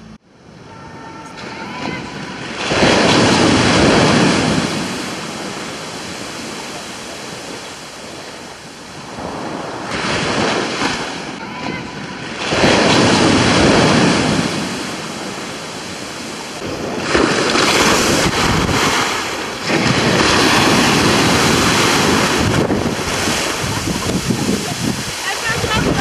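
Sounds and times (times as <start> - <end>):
wind buffeting microphone: 1.3 - 26.0
surf breaking on beach: 1.8 - 26.0.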